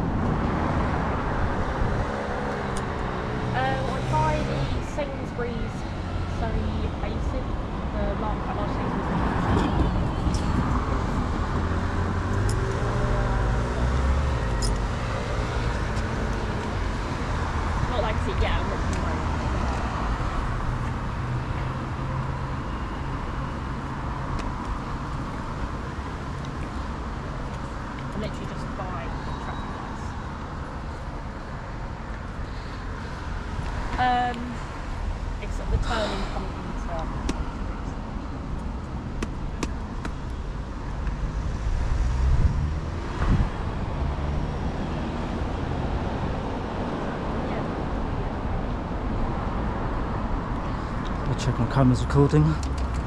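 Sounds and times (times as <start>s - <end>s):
road vehicles passing: 0.0s - 53.0s.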